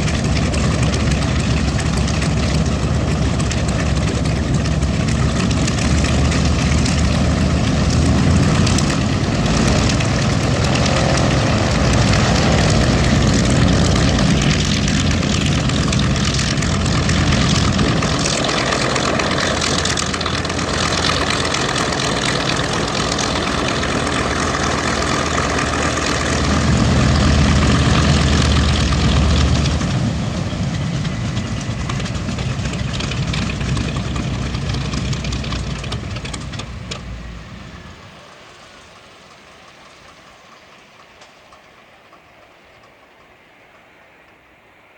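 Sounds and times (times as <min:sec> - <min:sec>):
radial aircraft engines running: 0:00.0 - 0:44.9.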